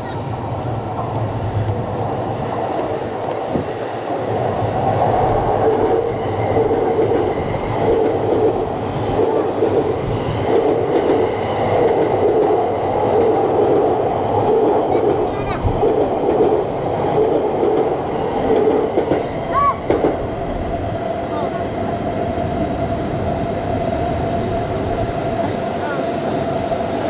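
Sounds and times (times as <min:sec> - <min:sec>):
electric train rumbling on track: 0:00.0 - 0:27.0.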